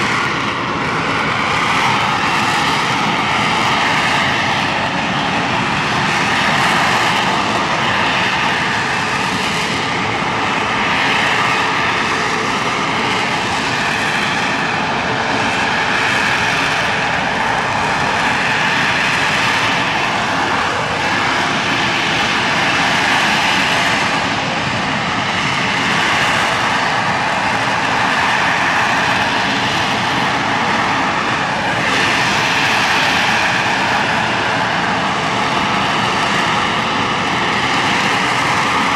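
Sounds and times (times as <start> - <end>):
jet engine with high whine: 0.0 - 38.9.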